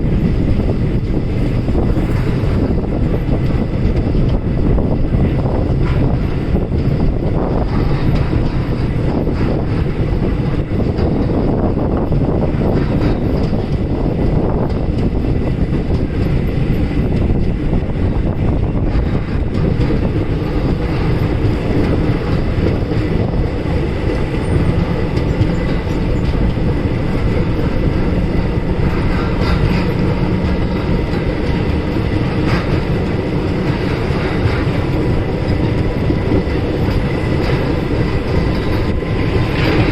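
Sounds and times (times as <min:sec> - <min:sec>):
clatter over rail joints: 0:00.0 - 0:39.9
train wheels rumbling on rails: 0:00.0 - 0:39.9.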